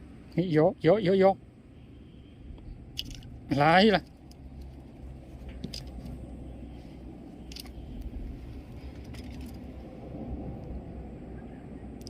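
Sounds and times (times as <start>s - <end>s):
low seaside background rumble: 0.0s - 12.0s.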